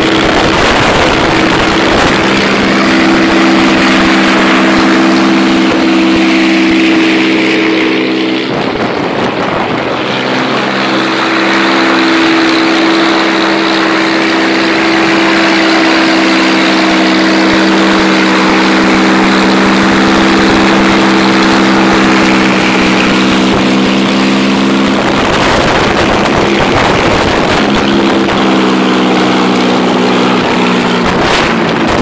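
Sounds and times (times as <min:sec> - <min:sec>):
piston aircraft engine running: 0:00.0 - 0:32.0.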